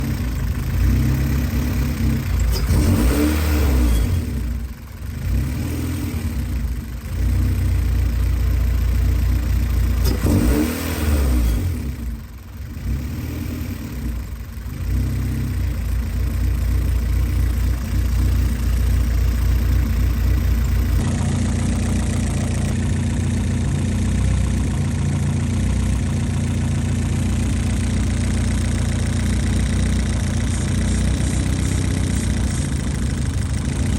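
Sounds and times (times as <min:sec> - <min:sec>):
car engine revving and idling: 0:00.0 - 0:33.9.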